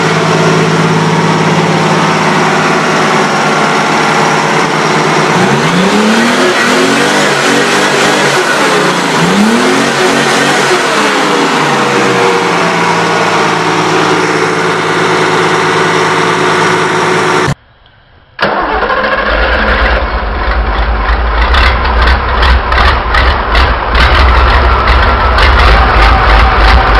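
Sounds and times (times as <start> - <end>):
engine revving and idling: 0.0 - 17.6, 18.4 - 26.9
diesel engine rumbling: 0.0 - 26.9.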